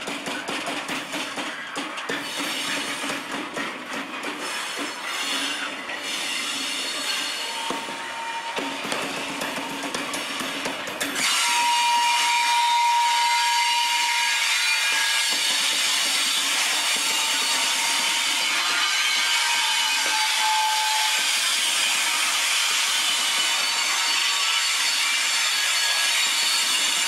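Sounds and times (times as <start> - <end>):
wagon wheels squealing on rails: 0.0 - 27.0.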